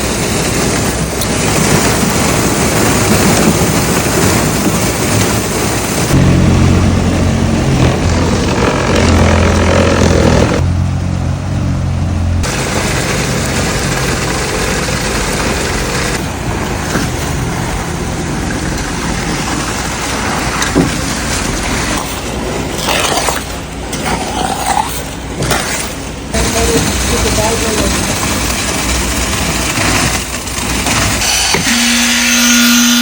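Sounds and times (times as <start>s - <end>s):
rush of concrete being pumped: 0.0s - 10.6s, 12.4s - 33.0s
pump truck engine hum: 0.0s - 32.0s.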